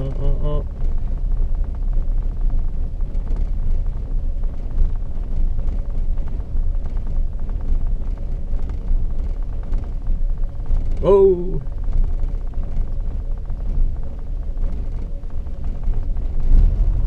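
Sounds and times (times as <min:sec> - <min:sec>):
rain ticking on car: 0:00.0 - 0:16.6
car engine idling rough: 0:00.0 - 0:17.0.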